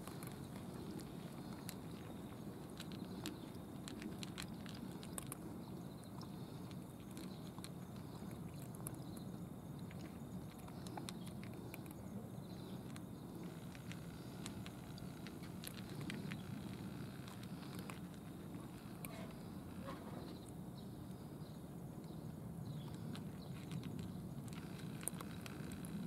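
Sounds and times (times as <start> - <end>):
cats chewing with crunching clicks: 0.0 - 26.0
low background noise: 0.0 - 26.0.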